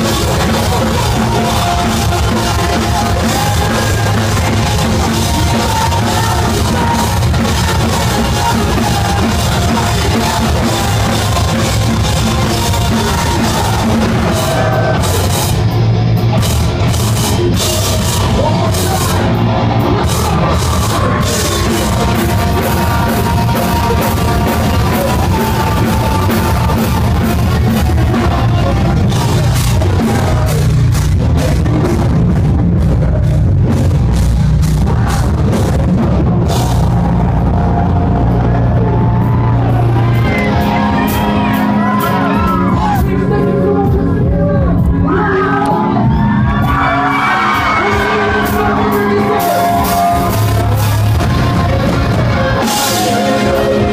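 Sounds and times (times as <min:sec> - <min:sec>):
person singing: 0:00.0 - 0:15.7, 0:16.4 - 0:53.9
distorted guitars: 0:00.0 - 0:53.9
heavy drums: 0:00.0 - 0:53.9.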